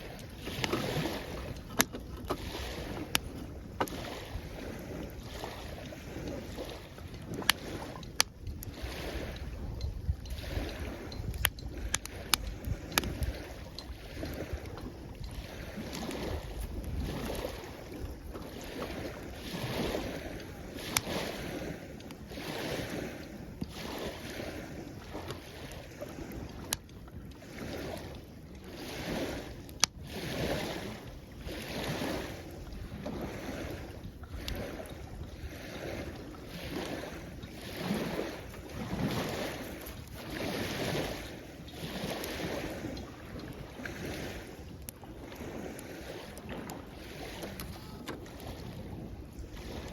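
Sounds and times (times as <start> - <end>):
small waves washing on shore: 0.0 - 49.9.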